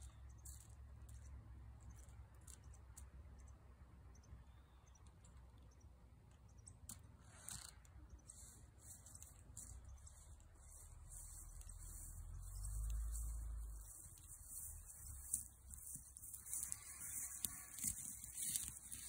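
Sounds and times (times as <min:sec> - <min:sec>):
faint clicks and ticks: 0:00.0 - 0:19.0.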